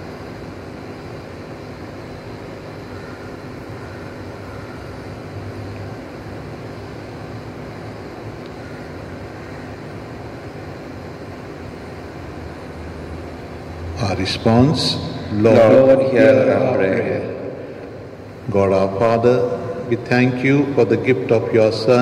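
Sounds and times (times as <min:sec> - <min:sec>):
background rumble and hum: 0:00.0 - 0:22.0.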